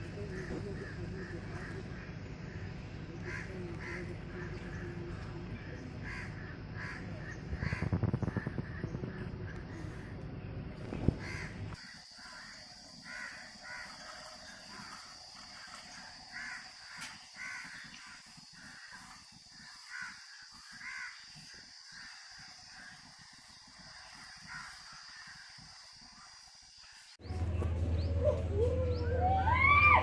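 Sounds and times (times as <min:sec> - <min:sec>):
crows cawing: 0:00.3 - 0:10.1, 0:11.2 - 0:27.1.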